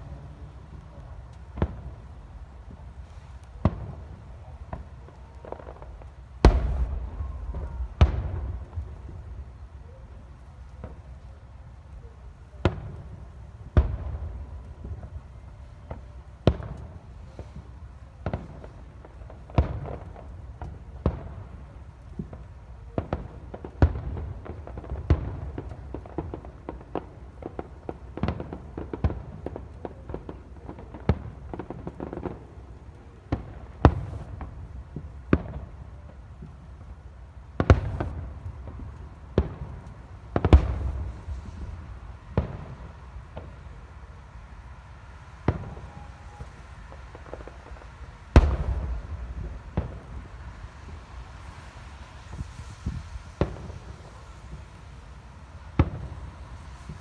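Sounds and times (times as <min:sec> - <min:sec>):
fireworks booming: 0:00.0 - 0:57.0.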